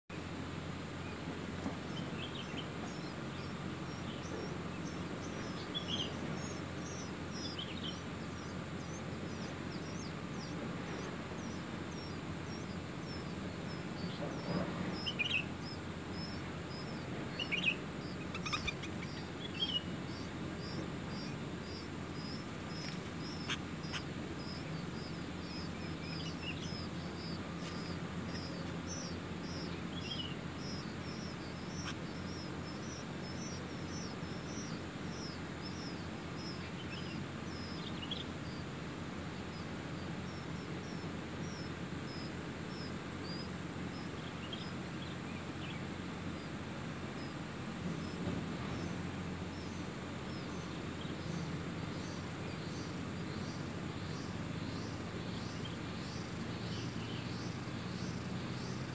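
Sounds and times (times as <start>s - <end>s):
low background hiss: 0.1s - 58.9s
lower bird calls: 0.1s - 58.9s
nestlings begging high chirps: 0.1s - 58.9s.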